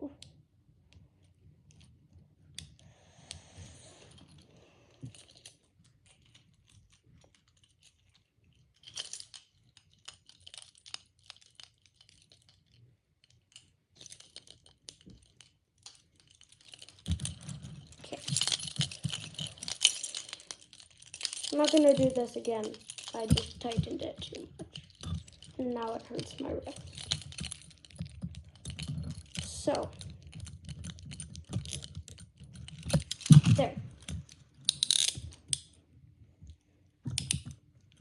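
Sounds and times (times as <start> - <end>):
chain rattles: 3.9 - 35.8, 37.1 - 38.0
handcuffs clicking and ratcheting: 5.0 - 35.8, 37.1 - 38.0.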